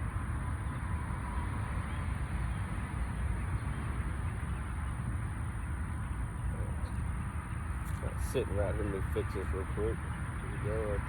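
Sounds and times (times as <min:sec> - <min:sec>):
distant freeway traffic hum: 0:00.0 - 0:11.0.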